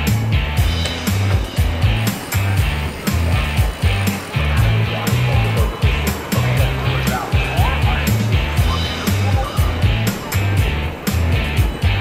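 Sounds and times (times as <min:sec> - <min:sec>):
music with heavy bass and beat: 0:00.0 - 0:12.0.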